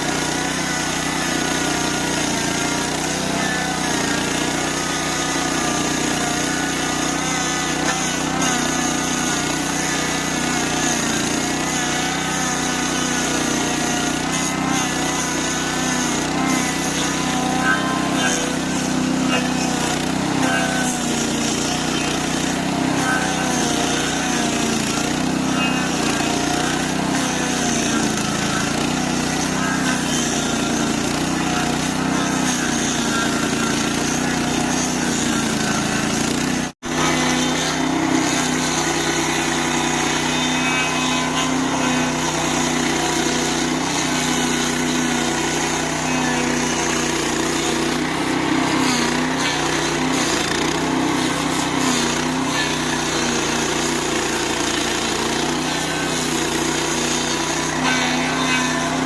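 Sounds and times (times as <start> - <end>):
stump grinder engine running: 0.0 - 59.0.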